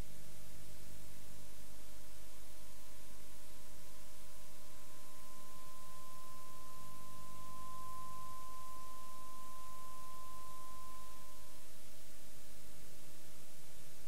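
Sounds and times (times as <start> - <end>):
steady pure tone: 0.0 - 14.0.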